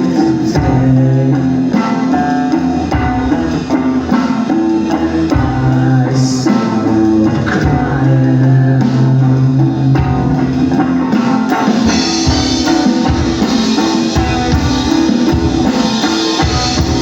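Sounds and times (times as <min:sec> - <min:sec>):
bass notes: 0:00.0 - 0:17.0
drum kit: 0:00.0 - 0:17.0
electric guitar: 0:00.0 - 0:17.0.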